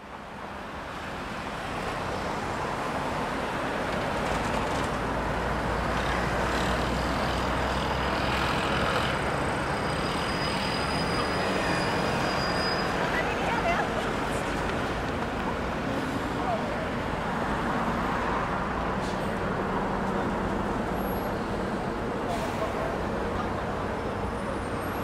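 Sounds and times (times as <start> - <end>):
city traffic noise: 0.0 - 25.0.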